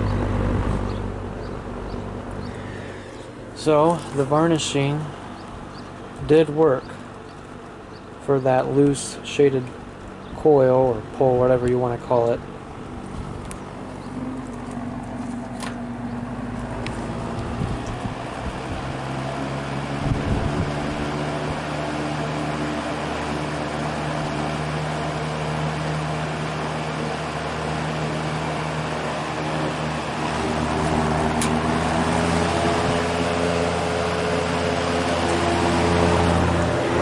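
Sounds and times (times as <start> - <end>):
rush of air from fan: 0.0 - 10.3, 12.4 - 37.0
box fan motor hum: 0.0 - 37.0.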